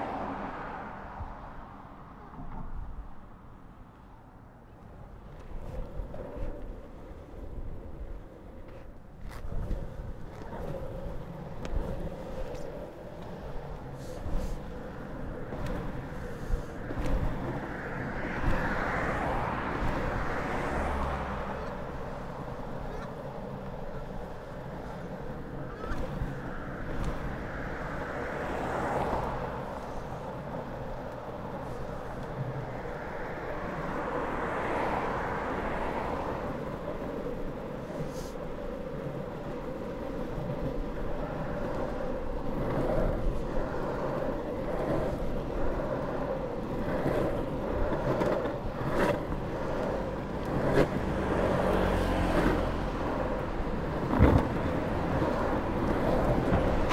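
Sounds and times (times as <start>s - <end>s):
longboard wheels rolling on tarmac: 0.0s - 56.9s
road traffic passing: 0.0s - 56.9s.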